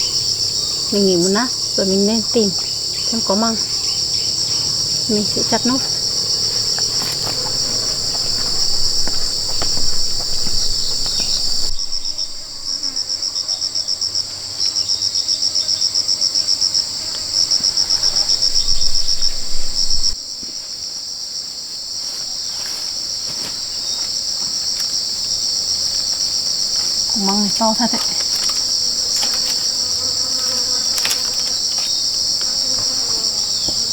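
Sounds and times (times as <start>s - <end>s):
insect chirring: 0.0s - 20.2s, 22.6s - 33.9s.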